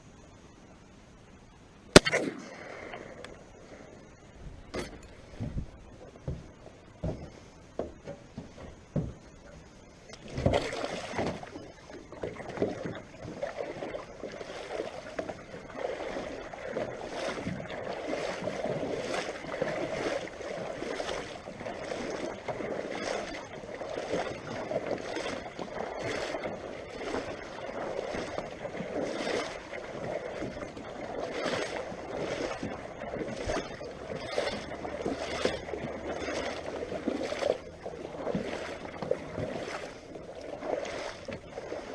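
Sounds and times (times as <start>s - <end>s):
water splashing and sloshing: 1.9s - 41.9s.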